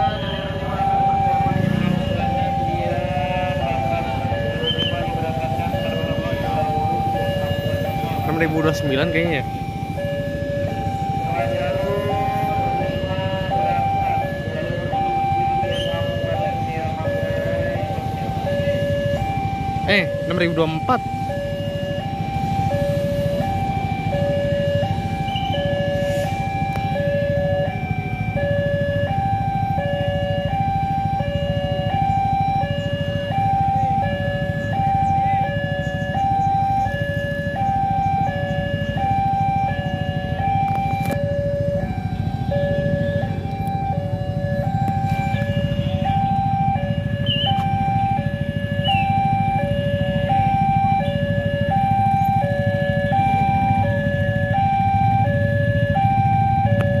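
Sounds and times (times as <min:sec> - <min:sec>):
two-tone crossing alarm: 0:00.0 - 0:57.0.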